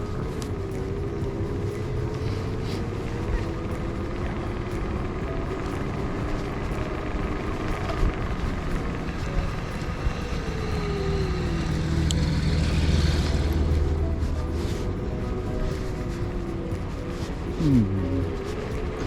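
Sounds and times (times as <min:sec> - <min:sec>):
street traffic road noise: 0:00.0 - 0:19.0
vehicle engine hum: 0:00.0 - 0:19.0.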